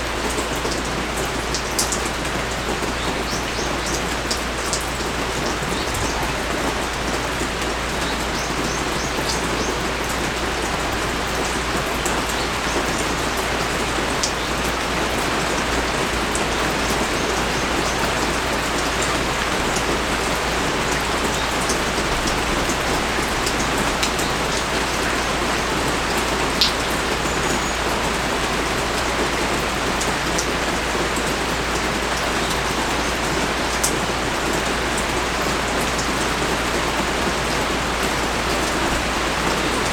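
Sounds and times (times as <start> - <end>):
heavy rain pouring: 0.0 - 39.9
raindrops ticking close by: 0.0 - 39.9.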